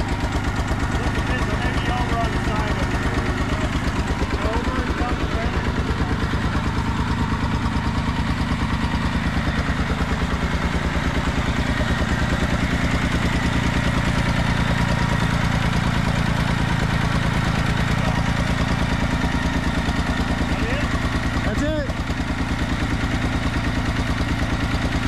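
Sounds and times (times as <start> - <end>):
tractor engine running slowly: 0.0 - 25.0.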